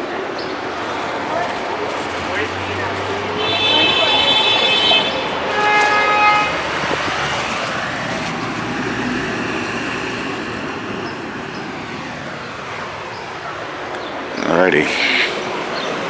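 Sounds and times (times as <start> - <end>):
city street traffic: 0.0 - 16.0
motor vehicle passing close: 0.4 - 14.4.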